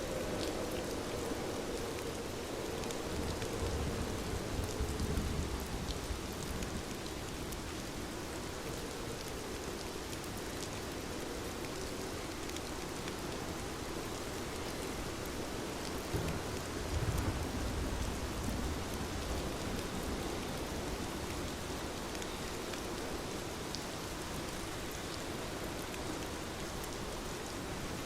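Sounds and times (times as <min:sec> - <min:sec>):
steady rainfall hiss: 0:00.0 - 0:28.0.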